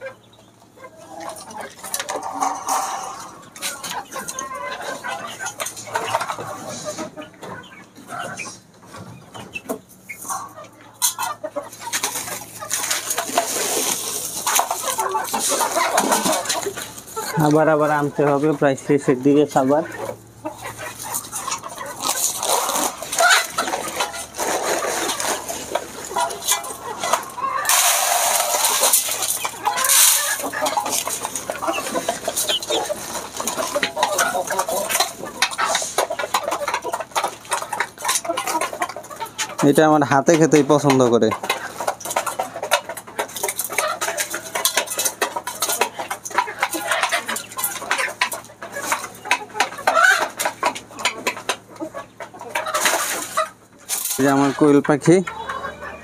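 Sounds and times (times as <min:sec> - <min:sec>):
chickens clucking: 0:00.0 - 0:56.0
chickens pecking at grain: 0:00.0 - 0:56.0.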